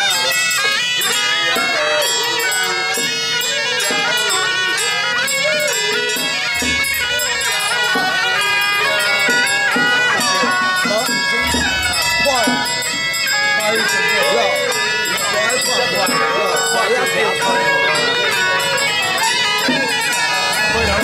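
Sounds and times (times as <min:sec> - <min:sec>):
shawms playing reedy melody: 0:00.0 - 0:21.0.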